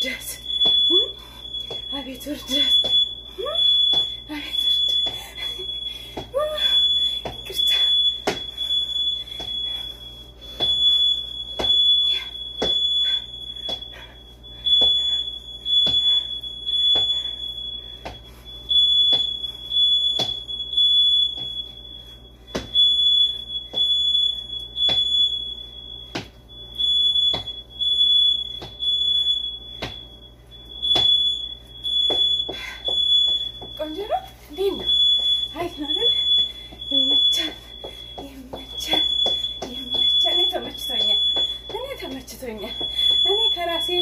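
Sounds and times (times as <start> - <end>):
smoke alarm beeping: 0.0 - 44.0.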